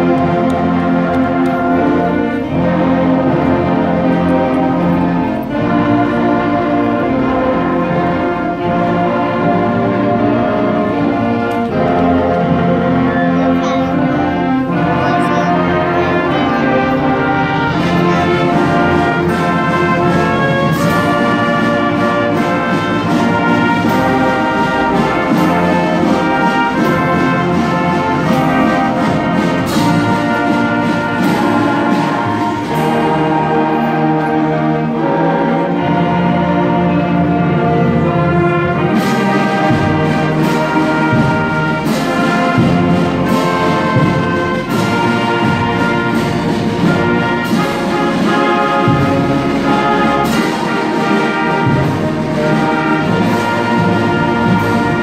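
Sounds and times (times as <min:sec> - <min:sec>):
brass playing: 0:00.0 - 0:55.0
concert band playing: 0:00.0 - 0:55.0.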